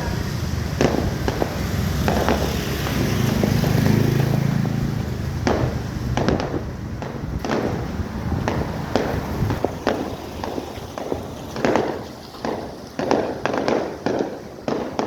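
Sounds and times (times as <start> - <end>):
fireworks bangs with crackle: 0.0 - 15.0.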